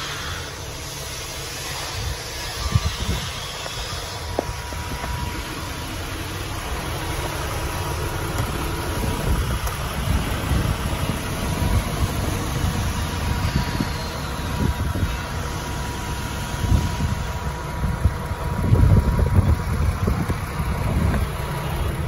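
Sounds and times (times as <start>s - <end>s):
low steady rumble: 0.0s - 22.0s
wind buffeting microphone: 1.8s - 22.0s.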